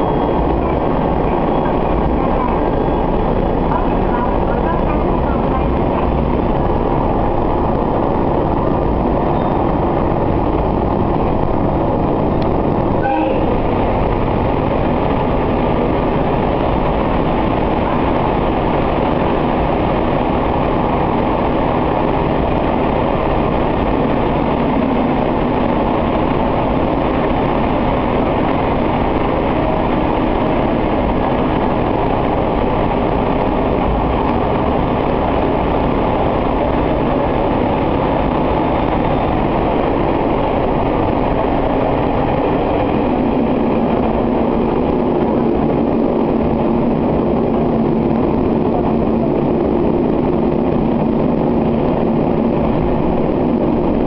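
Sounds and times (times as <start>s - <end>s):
low engine hum: 0.0s - 54.0s
railcar rumbling through tunnel: 0.0s - 54.0s.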